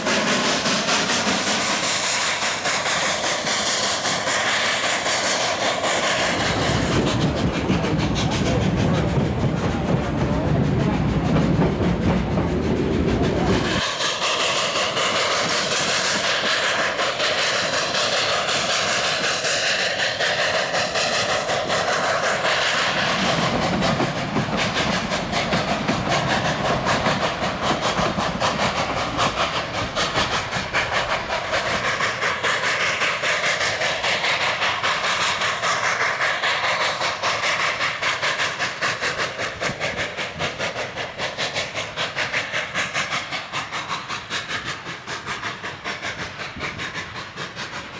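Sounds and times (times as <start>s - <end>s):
steam train hissing and chuffing: 0.0s - 47.9s.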